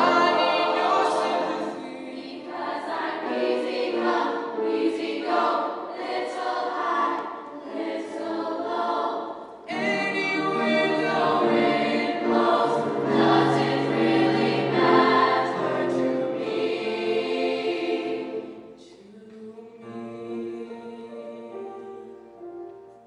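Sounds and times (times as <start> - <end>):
choir singing held notes: 0.0 - 22.8.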